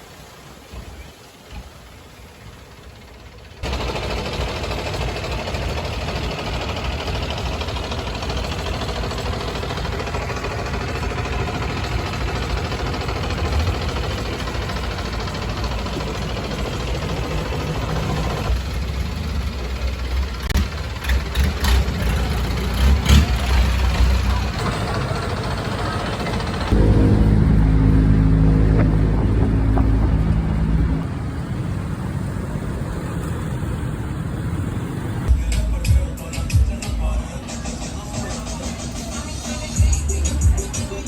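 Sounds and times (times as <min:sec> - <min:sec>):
motorboat engine running: 0:00.9 - 0:36.1.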